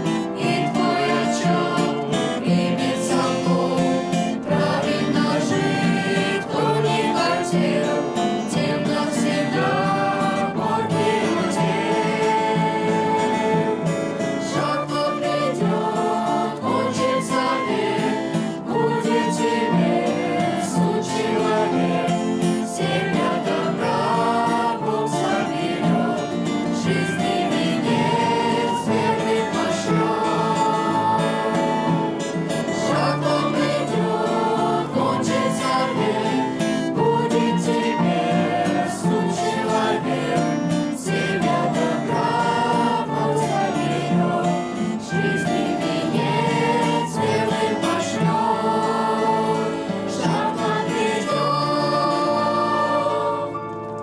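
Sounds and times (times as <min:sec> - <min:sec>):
choir singing a hymn: 0:00.0 - 0:54.0
guitar accompaniment: 0:00.0 - 0:54.0.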